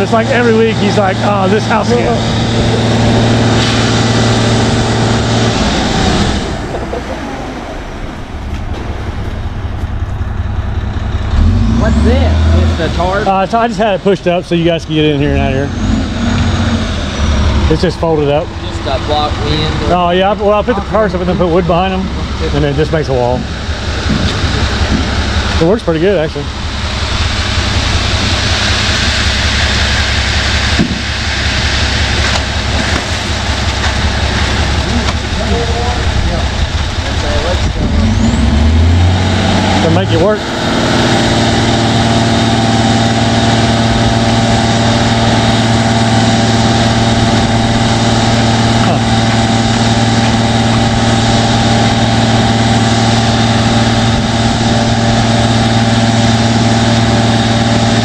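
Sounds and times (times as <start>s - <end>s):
machine hissing and rumbling: 0.0s - 58.0s
truck engine running: 0.0s - 58.0s.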